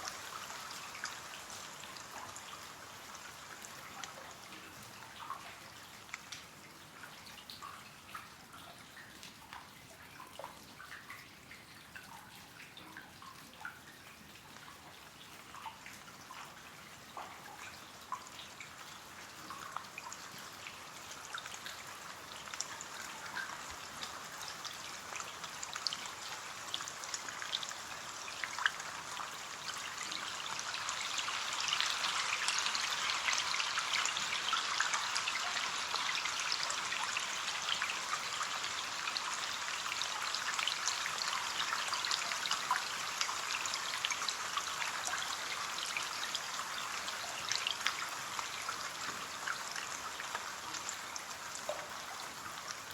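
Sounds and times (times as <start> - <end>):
rain pattering on a window: 0.0 - 52.9.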